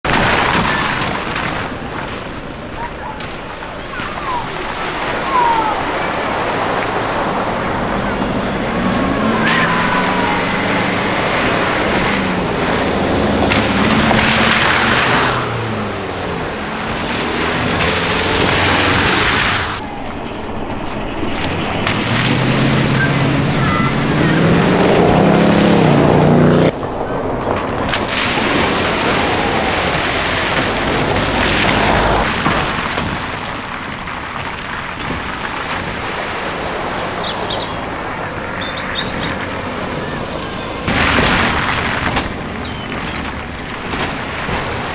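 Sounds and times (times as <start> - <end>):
vehicle engine: 0.0 - 44.9
water splashing off tyres: 0.0 - 44.9.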